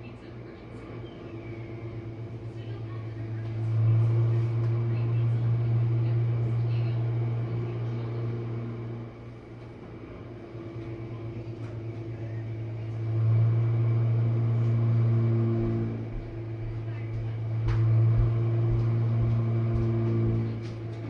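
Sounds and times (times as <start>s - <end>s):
dishwasher pump humming: 0.0s - 21.0s.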